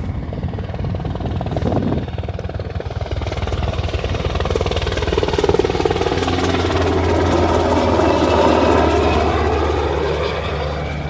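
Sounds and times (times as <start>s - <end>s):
helicopter rotor chop and engine: 0.0s - 11.0s.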